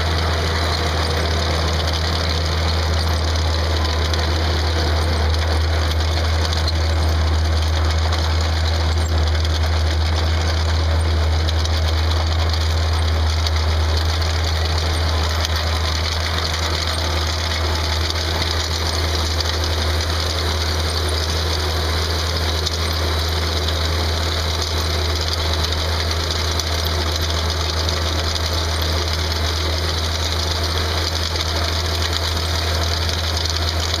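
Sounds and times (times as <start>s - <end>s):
trencher engine humming: 0.0s - 34.0s.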